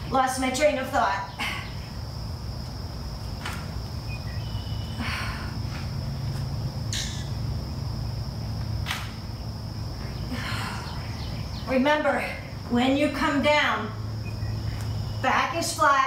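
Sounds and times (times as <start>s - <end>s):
crickets trilling: 0.0s - 16.0s
low steady hum: 0.0s - 16.0s.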